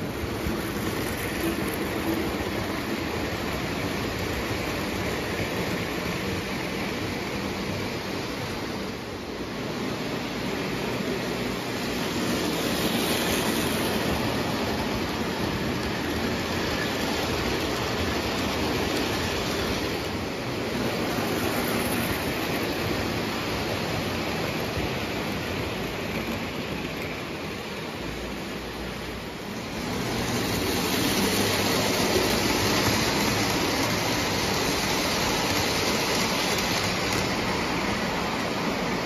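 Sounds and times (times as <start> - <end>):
toy train wheels rumbling on rails: 0.0 - 8.7, 10.4 - 39.0.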